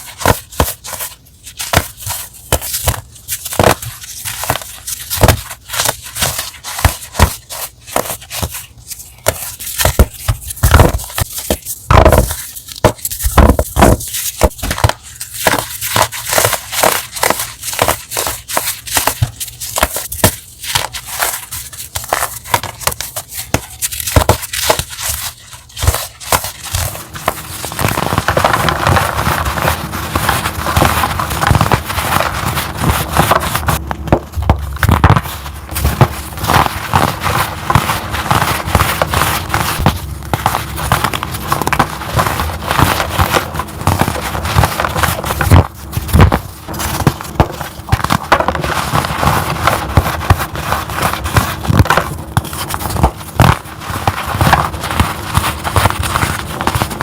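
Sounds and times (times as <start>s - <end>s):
crunching and crackling of chalk: 0.0s - 57.0s.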